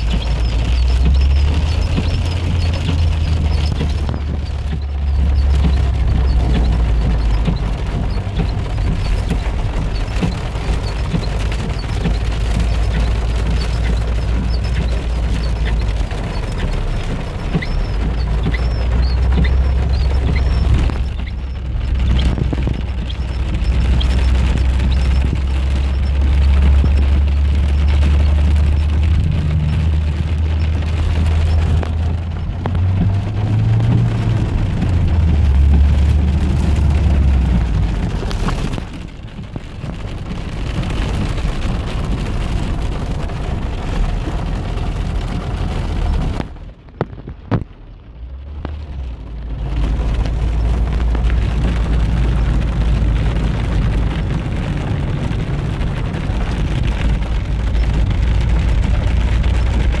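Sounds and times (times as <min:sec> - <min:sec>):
car engine and tyres on wet road: 0:00.0 - 1:00.0
rain falling on a car: 0:00.0 - 1:00.0.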